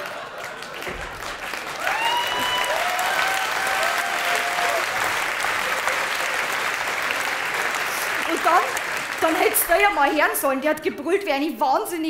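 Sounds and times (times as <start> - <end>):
people cheering: 0.0 - 10.0
audience applauding: 0.0 - 10.5.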